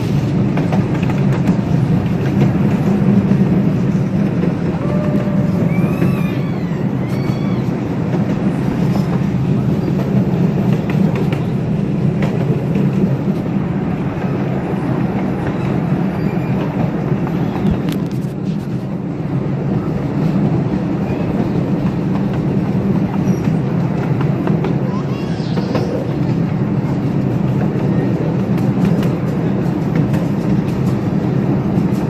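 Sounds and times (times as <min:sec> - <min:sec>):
train cars rolling on track: 0:00.0 - 0:32.0.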